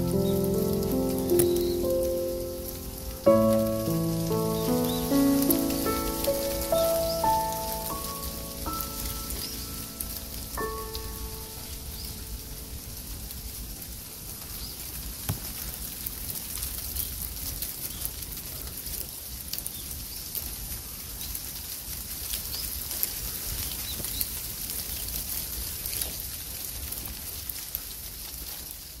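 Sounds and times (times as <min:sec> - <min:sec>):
dry leaves rustling and crackling: 0:00.0 - 0:29.0.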